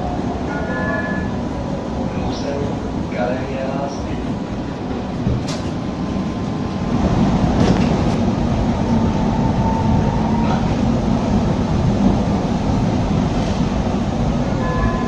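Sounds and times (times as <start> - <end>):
tram wheels rumbling on rails: 0.0 - 15.0.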